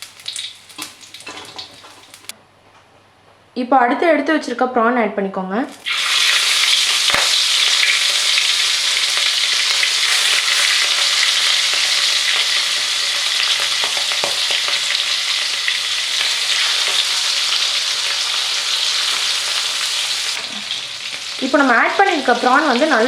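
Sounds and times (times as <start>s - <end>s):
prawns sizzling in hot oil: 0.0s - 2.3s, 5.8s - 23.0s.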